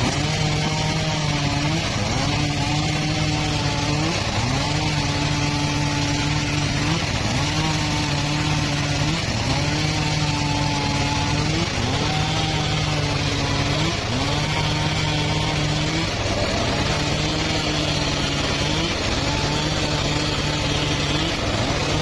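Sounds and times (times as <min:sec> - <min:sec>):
power saw cutting wood: 0:00.0 - 0:22.0.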